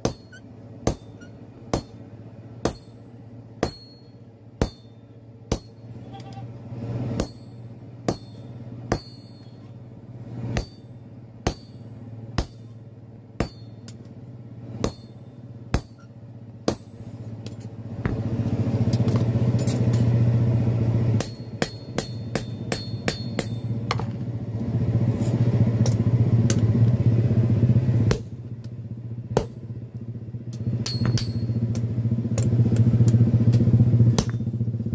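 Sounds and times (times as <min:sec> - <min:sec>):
loud mechanical running noise: 0:00.0 - 0:34.9.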